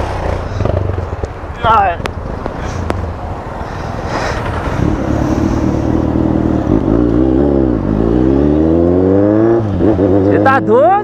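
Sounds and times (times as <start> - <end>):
motorcycle engine revving: 0.0 - 2.2, 4.0 - 11.0.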